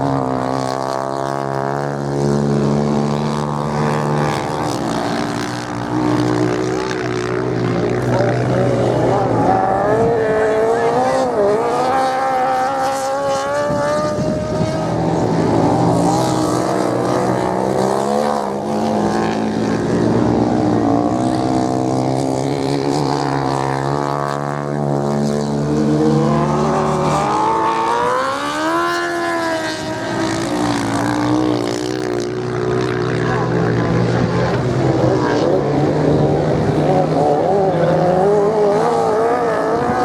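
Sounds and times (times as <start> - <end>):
racing motorcycle engines: 0.0 - 40.0.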